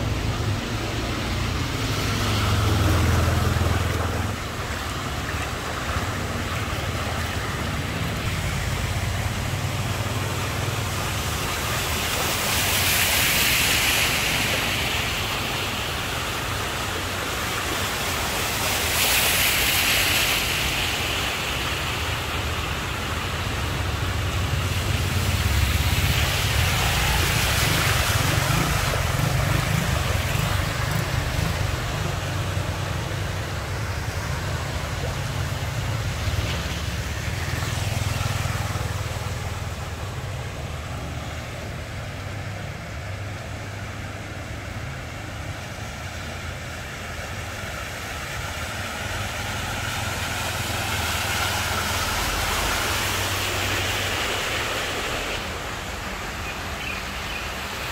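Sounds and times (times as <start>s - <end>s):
motorbike engines passing: 0.0s - 12.6s, 23.5s - 57.8s
water spray: 0.0s - 41.2s, 47.2s - 57.9s
car engines passing: 0.0s - 57.9s
tyres swishing through water: 0.0s - 57.9s
water wash: 0.0s - 57.9s.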